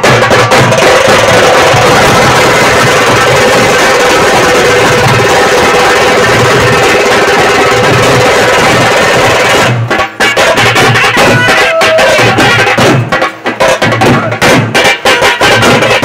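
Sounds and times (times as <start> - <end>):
barrel drums beaten with sticks: 0.0 - 16.0.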